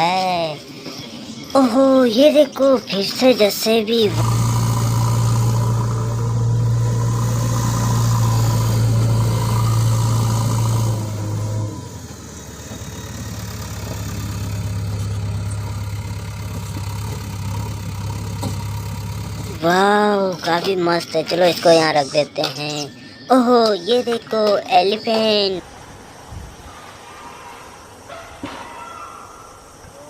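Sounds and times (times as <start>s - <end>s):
toy engine hum: 0.0s - 25.7s.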